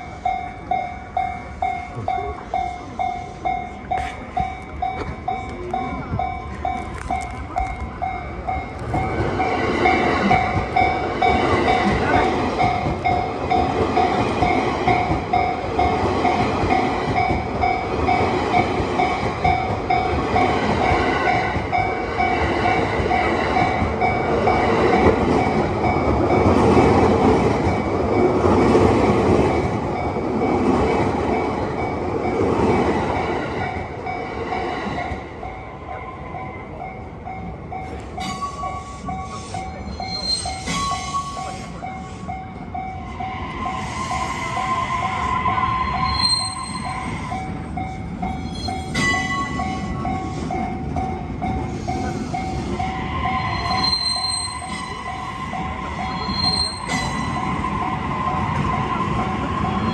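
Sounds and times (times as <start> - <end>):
level crossing warning bell: 0.0 - 59.9
train passing: 0.0 - 59.9.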